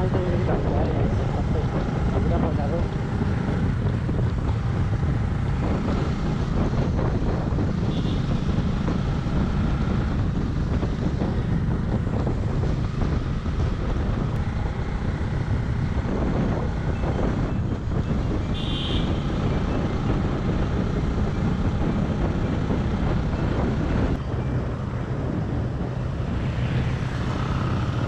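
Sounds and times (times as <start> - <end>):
motorcycle engine running: 0.0 - 28.0
wind noise on microphone: 0.0 - 28.0.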